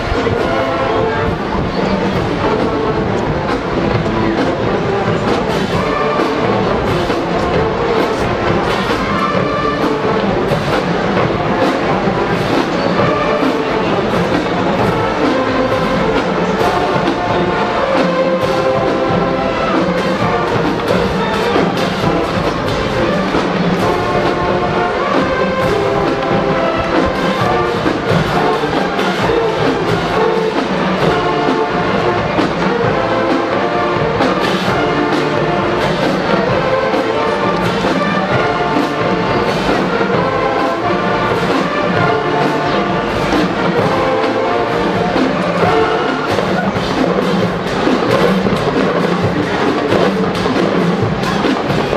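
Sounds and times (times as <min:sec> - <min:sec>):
marching band brass tune: 0:00.0 - 0:51.9
steady drum beats: 0:00.0 - 0:51.9.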